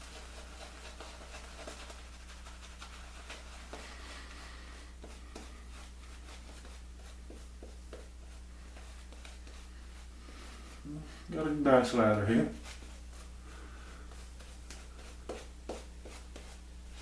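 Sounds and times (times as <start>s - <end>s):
shaving brush swishing lather: 0.0s - 13.4s, 14.0s - 17.0s
steady low hum: 0.0s - 17.0s.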